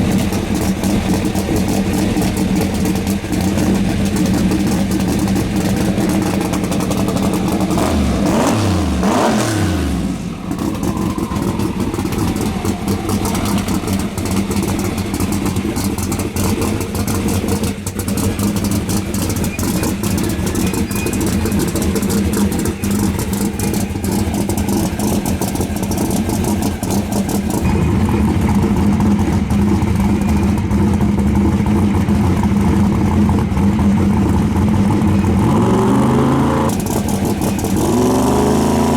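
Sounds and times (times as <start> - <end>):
racing car engine idling loudly: 0.0 - 38.9.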